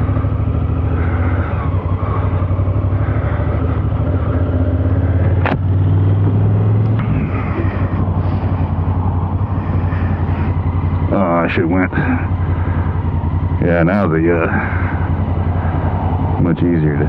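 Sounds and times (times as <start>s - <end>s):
motorcycle engine riding off: 0.0s - 17.0s.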